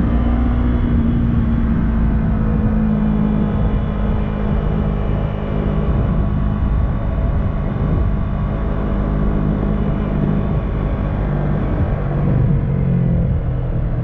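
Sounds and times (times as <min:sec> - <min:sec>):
motorcycle engine running: 0:00.0 - 0:14.0
wind rumbling on microphone: 0:00.0 - 0:14.0.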